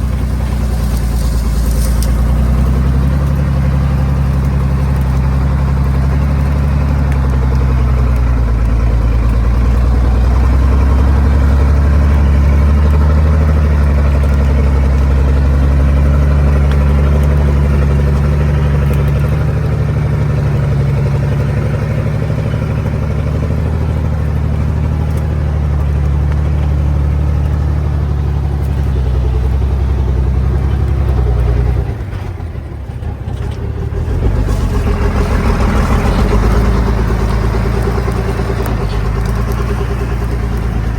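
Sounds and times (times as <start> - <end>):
truck engine running uphill: 0.0 - 40.9.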